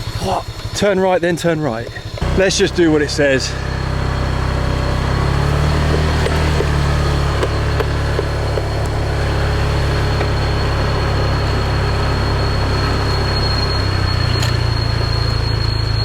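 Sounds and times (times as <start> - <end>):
small motorbike engine running: 0.0 - 16.0
thin high-pitched tone: 2.2 - 16.0.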